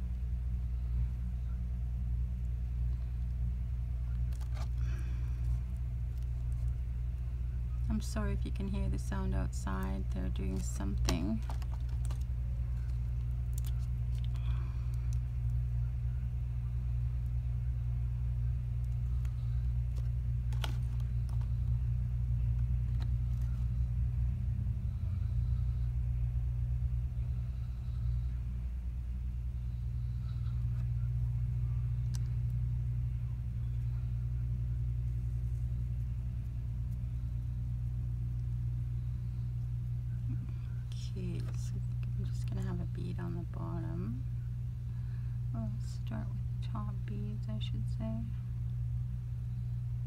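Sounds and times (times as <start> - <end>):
machinery rumble: 0.0 - 50.0.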